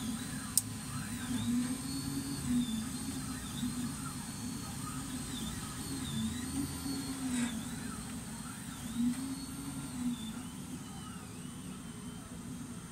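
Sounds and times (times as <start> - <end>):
cooling fans hissing: 0.0 - 12.9
stepper motors whining: 0.0 - 12.9.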